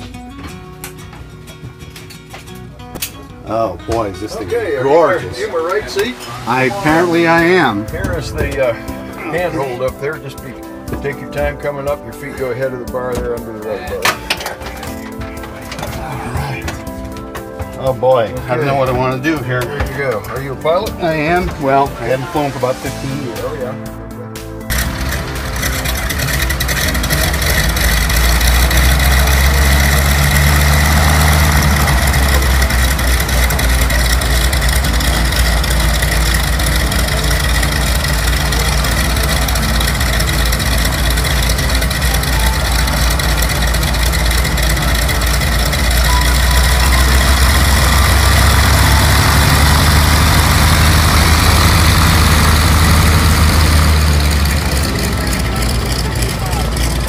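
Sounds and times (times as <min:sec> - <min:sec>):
aircraft engines droning: 0:02.8 - 0:12.7, 0:14.1 - 0:57.0.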